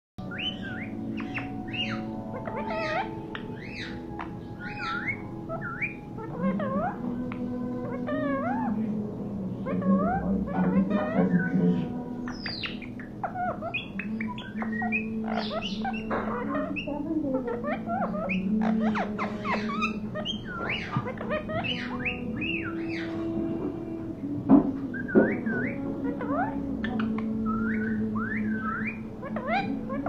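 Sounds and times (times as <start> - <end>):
parakeet chirping and whistling: 0.2 - 7.1, 9.6 - 23.6, 24.9 - 30.0.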